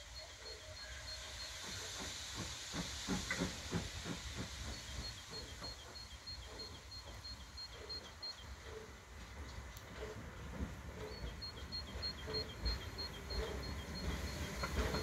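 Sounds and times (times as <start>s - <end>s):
steam hissing from cylinders: 0.0s - 15.0s
steam locomotive exhaust beats: 0.0s - 15.0s.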